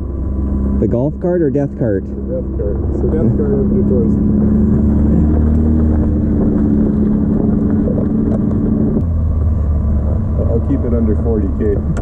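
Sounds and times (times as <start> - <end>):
golf cart engine running: 0.0 - 12.0.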